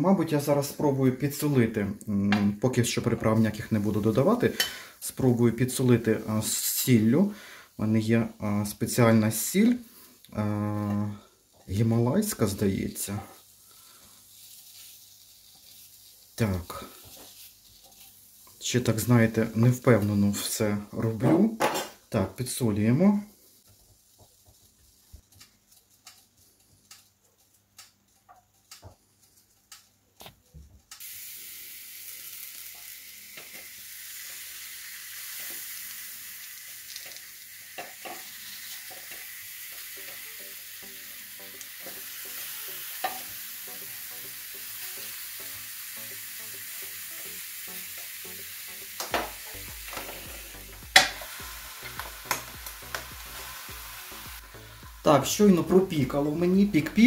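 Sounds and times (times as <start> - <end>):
peppers sizzling on contact grill: 0.0 - 57.0.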